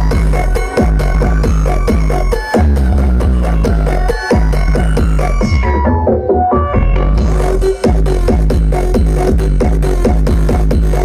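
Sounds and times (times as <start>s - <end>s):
electronic dance music with heavy bass: 0.0s - 11.0s.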